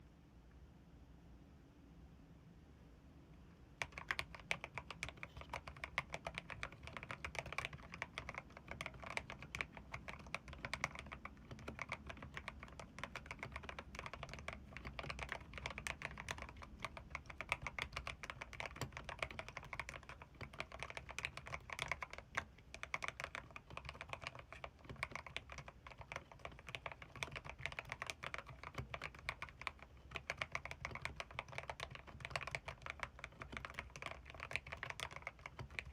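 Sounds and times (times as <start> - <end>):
fast mechanical keyboard typing: 3.8 - 35.9.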